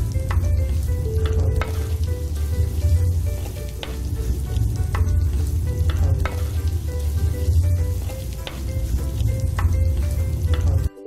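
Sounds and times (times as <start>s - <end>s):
food sizzling in hot oil: 0.0s - 10.9s
wooden spatula scraping a pot: 0.7s - 10.9s.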